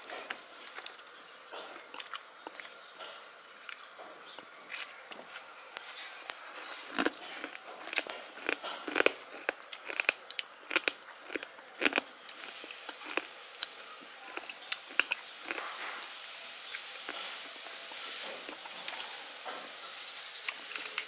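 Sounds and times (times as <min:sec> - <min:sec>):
chewing crunchy food: 0:00.0 - 0:19.8.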